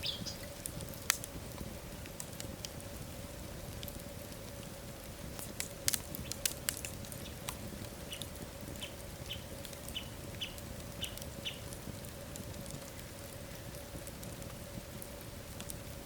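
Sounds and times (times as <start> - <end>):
faint steady hum: 0.0 - 16.0
fire popping: 0.0 - 16.0
wood fire crackling: 0.0 - 16.0.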